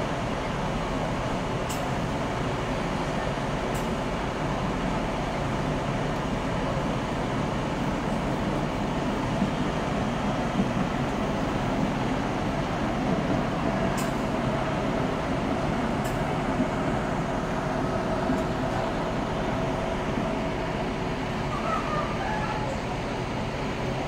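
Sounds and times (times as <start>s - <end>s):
diesel coach engine idling: 0.0s - 24.0s.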